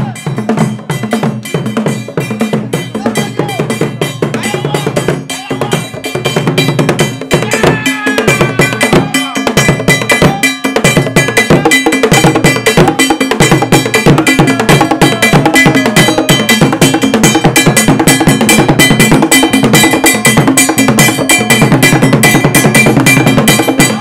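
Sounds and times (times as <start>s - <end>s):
hand drums in fast rhythm: 0.0s - 24.0s.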